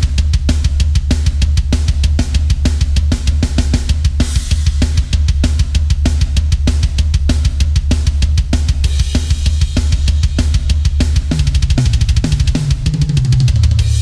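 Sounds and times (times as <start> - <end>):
fast bass drum: 0.0 - 14.0
tom fill: 0.0 - 14.0.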